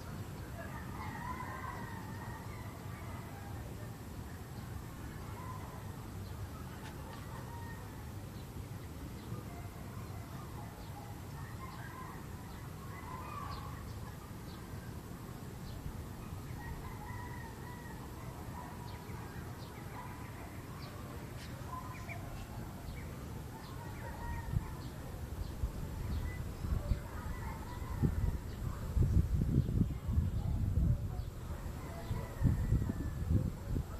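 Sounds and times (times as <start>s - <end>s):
distant bird calls: 0.0s - 29.2s.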